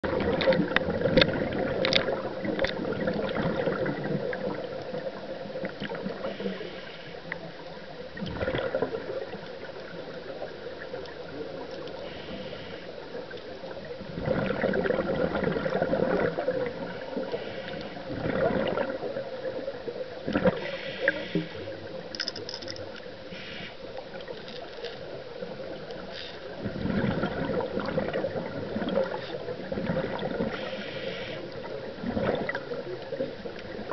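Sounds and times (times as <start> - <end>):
steady underwater hum: 0.0 - 33.9
underwater rushing water: 0.0 - 33.9.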